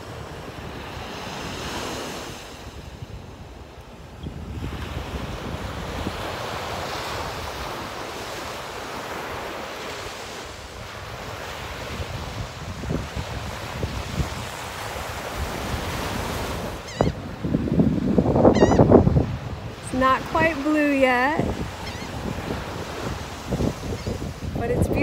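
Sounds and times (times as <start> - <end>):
wind buffeting microphone: 2.2 - 8.3, 10.7 - 25.0
small surf breaking on beach: 4.5 - 25.0.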